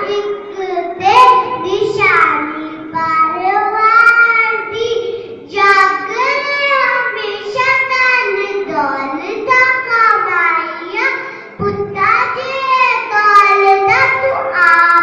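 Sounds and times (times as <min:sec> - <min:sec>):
child reciting in sung style: 0:00.0 - 0:15.0.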